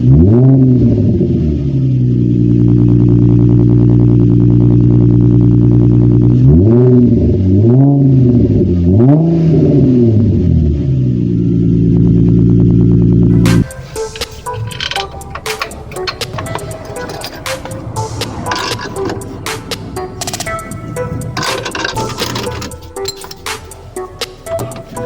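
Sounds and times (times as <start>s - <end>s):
car exhaust revving: 0.0s - 25.0s.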